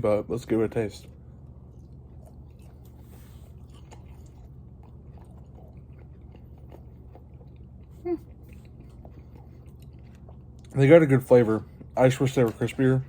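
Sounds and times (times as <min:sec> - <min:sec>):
steady low hum: 0:00.0 - 0:13.0
person chewing food: 0:01.0 - 0:12.8.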